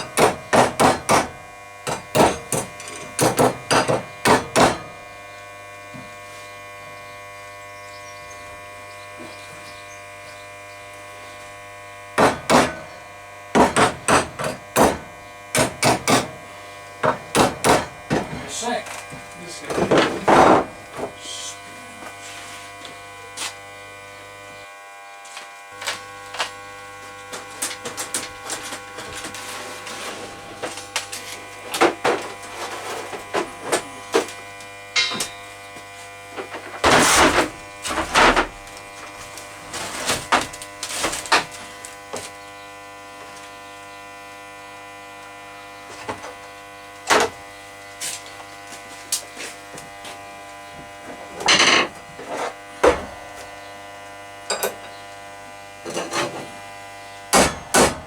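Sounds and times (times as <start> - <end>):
machine hum: 1.3 - 57.8.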